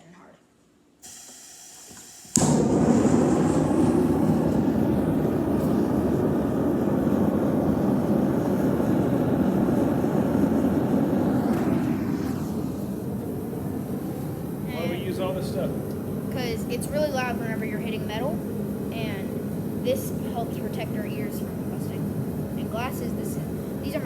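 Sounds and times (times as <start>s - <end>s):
forge burner roaring: 1.0s - 24.0s
gas hiss: 1.0s - 24.0s.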